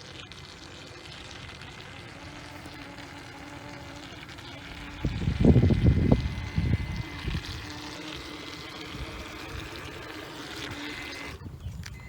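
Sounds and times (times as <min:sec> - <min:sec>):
water splashing and trickling: 0:00.0 - 0:11.6
small electric motor whine: 0:00.0 - 0:12.0.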